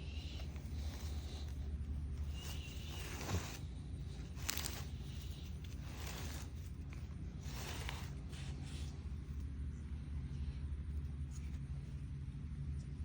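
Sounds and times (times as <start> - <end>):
low steady rumble: 0.0 - 13.0
rustling and scraping handling noise: 0.0 - 13.0.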